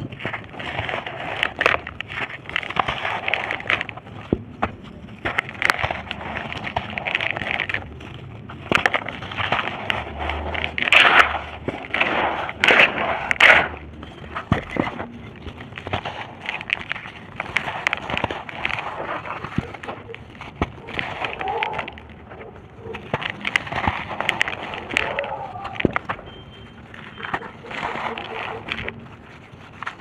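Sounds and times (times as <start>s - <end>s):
dry dirt crunching and crackling: 0.0s - 30.0s.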